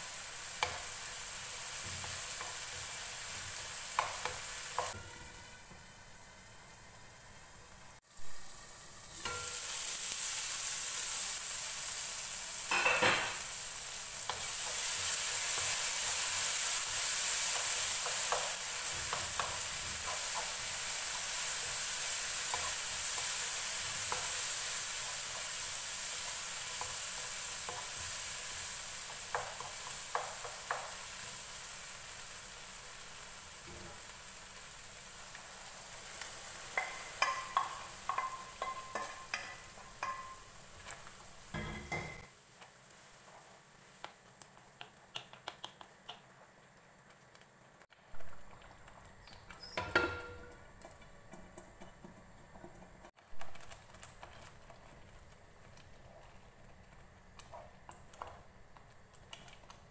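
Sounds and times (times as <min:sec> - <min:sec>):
vegetables sizzling in a pan: 0:00.0 - 0:59.9
stirring taps and scrapes on pan: 0:00.5 - 0:05.3, 0:12.7 - 0:32.0, 0:35.2 - 0:59.9.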